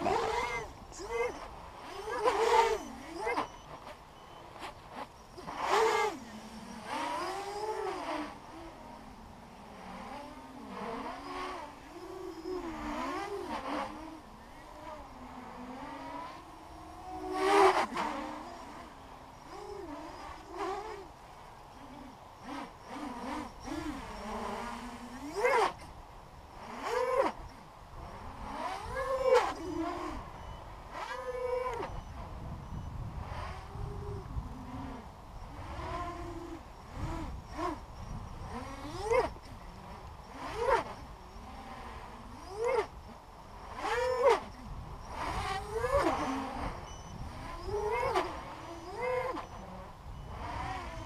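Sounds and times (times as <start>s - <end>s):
quadcopter motors buzzing and whining: 0.0s - 51.0s.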